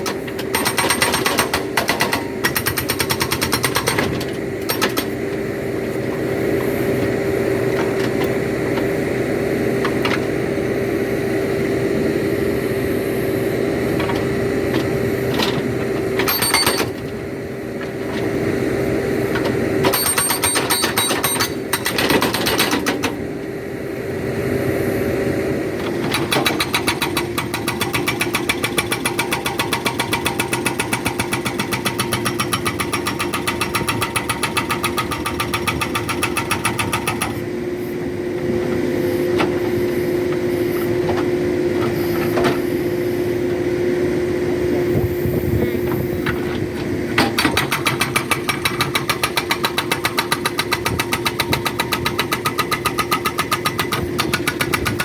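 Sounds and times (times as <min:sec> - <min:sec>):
hydraulic rock breaker hammering: 0:00.0 - 0:12.2, 0:13.6 - 0:23.2, 0:25.8 - 0:43.7, 0:44.3 - 0:55.0
engine and hydraulics humming: 0:00.0 - 0:55.0.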